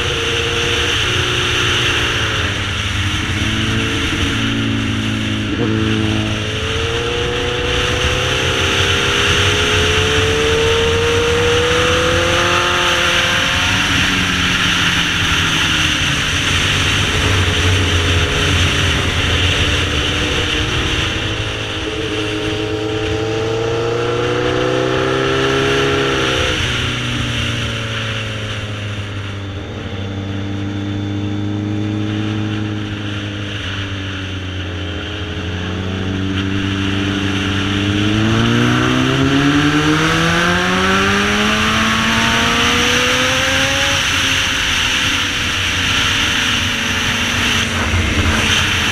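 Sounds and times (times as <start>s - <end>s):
motorcycle engine revving: 0.0s - 48.9s
steady rushing noise: 0.0s - 48.9s.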